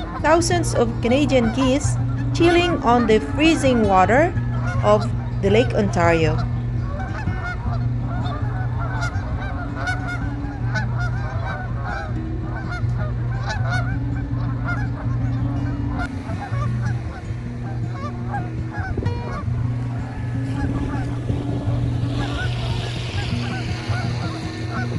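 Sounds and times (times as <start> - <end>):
geese honking: 0.0 - 24.9
low steady hum: 0.0 - 24.9.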